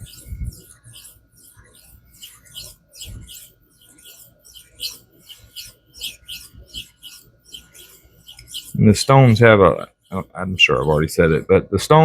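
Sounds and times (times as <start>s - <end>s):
knife blade scraping on whetstone: 0.0s - 11.1s.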